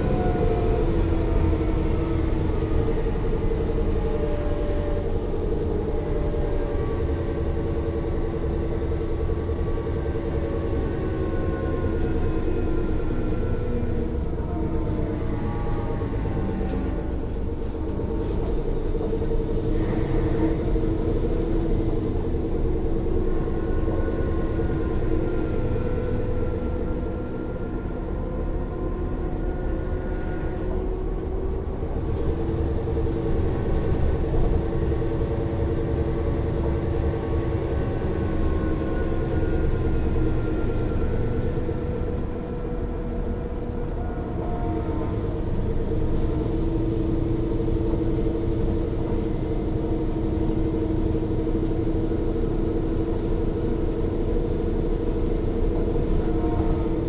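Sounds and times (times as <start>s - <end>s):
diesel bus engine droning: 0.0s - 57.0s.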